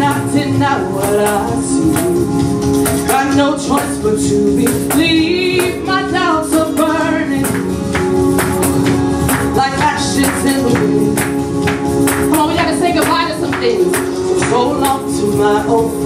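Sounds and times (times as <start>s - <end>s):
woman singing into a microphone: 0.0s - 8.0s, 9.2s - 16.0s
held chords: 0.0s - 16.0s
repeating percussive beat: 0.0s - 16.0s.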